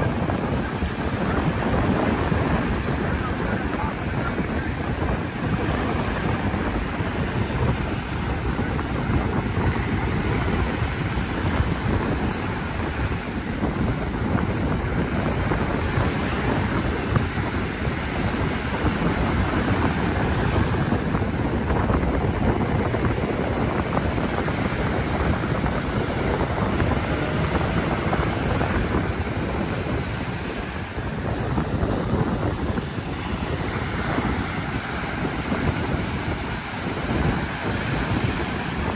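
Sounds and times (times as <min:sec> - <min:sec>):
surf breaking on shore: 0:00.0 - 0:38.9
wind buffeting microphone: 0:00.0 - 0:38.9.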